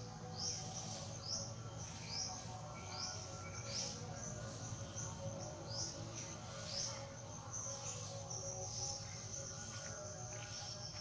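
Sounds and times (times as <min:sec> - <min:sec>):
forest background: 0:00.0 - 0:11.0.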